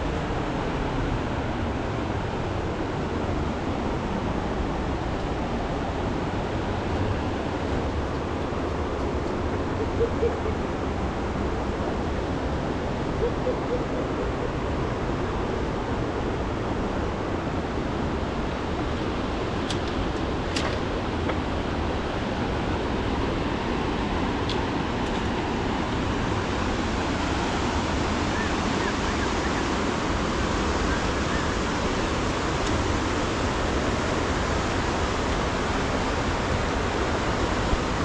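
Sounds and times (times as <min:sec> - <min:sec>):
river rushing in flood: 0:00.0 - 0:38.0.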